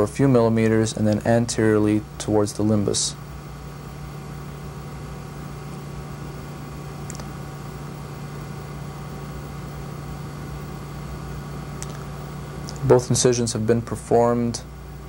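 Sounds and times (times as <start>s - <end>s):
low machine hum with hiss: 0.0s - 15.0s.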